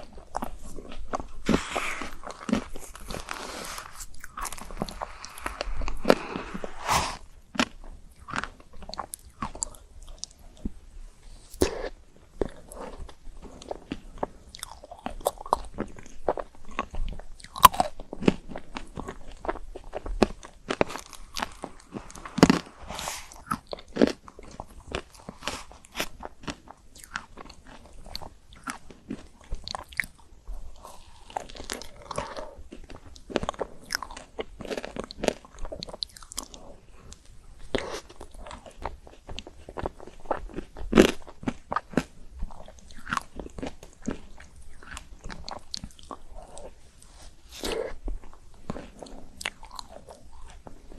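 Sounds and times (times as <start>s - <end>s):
soft chewing: 0.0s - 50.9s.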